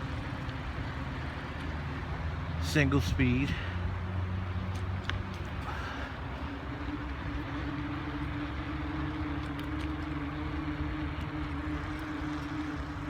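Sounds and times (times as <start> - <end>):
bike tires humming: 0.0 - 13.0.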